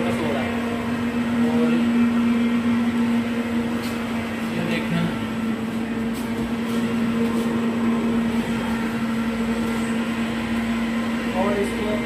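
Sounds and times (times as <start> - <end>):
cooling fans blowing: 0.0 - 12.0
low hum: 0.0 - 12.0.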